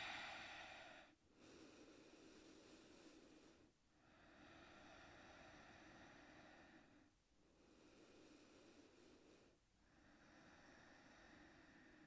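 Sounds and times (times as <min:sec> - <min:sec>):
slow soft breathing: 0:00.0 - 0:12.0.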